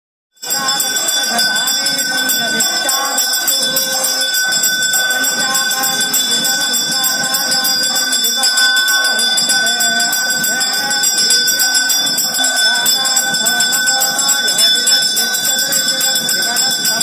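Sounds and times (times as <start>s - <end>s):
hand bell ringing rapidly: 0.4s - 17.0s
voices: 0.4s - 17.0s.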